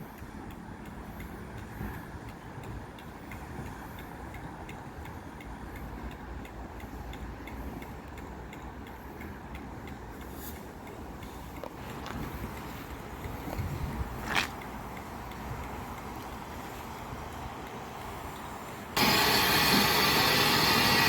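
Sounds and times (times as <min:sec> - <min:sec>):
light rhythmic track clicks: 0:00.0 - 0:19.0
train rumbling on track: 0:00.0 - 0:21.0.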